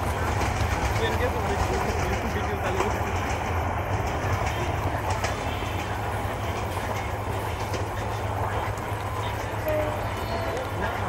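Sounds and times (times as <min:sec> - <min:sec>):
train coaches rumbling: 0:00.0 - 0:11.0
train wheel clicks: 0:00.0 - 0:11.0.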